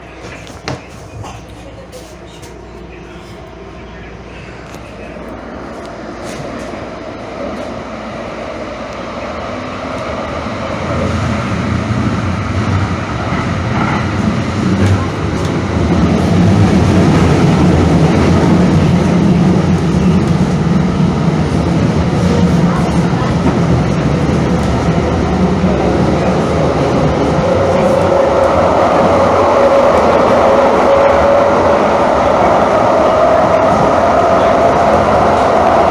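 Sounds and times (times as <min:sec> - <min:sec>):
light-rail train rumble: 0:00.0 - 0:35.9.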